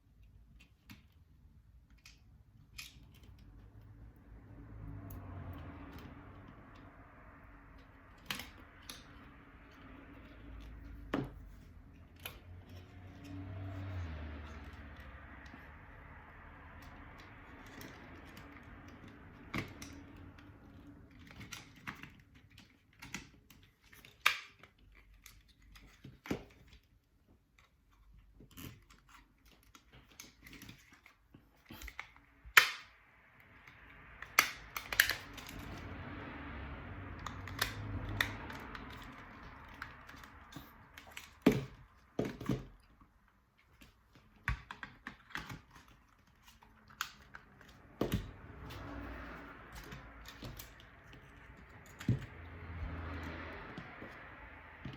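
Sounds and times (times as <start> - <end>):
small tools clicking and tapping: 5.0 - 36.2, 37.0 - 54.9.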